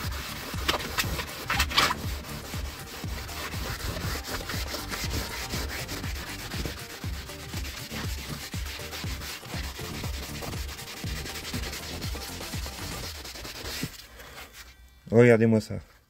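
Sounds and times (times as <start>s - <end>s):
sponge scrubbing wet leather: 0.0s - 14.2s.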